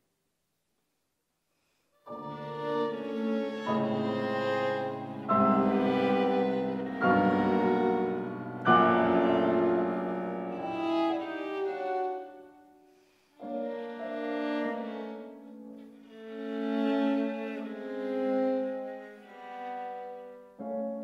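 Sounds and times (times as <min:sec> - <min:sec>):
violin viola and piano playing: 0:02.1 - 0:21.0.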